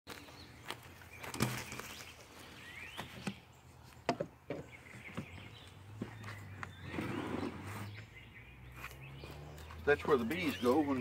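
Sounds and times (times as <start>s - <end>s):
bird chirping: 0.1s - 11.0s.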